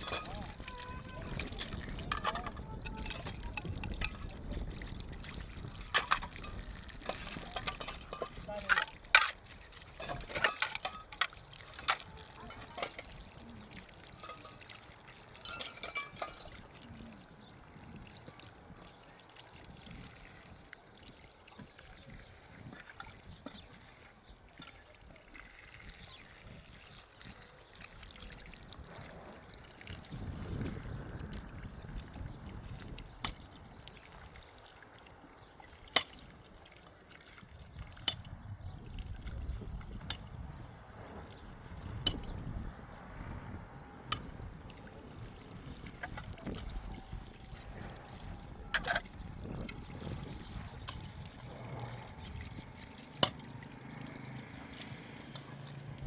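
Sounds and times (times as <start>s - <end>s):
water running and trickling: 0.0s - 56.0s.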